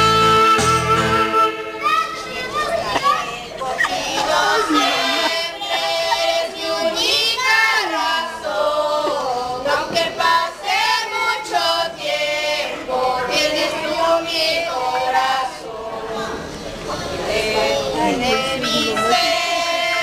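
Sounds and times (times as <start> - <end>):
women and children singing: 2.2 - 20.0.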